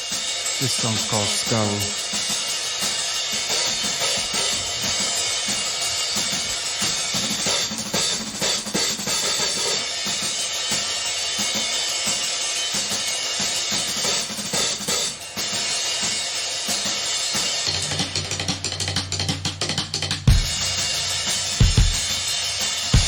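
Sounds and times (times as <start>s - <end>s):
drum kit beat: 0.0s - 23.0s.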